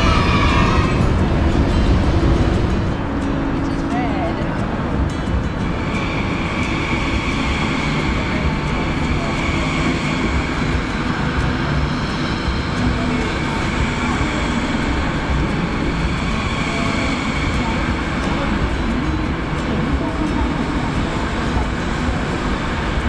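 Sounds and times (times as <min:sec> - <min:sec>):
high-speed train rumbling: 0:00.0 - 0:23.0.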